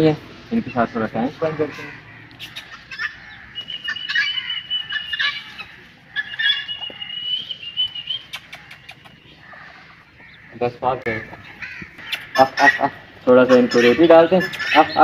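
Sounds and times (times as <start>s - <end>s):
birds chirping: 0.0s - 15.0s
long high bird calls: 0.4s - 15.0s
fowl clucking: 1.3s - 15.0s.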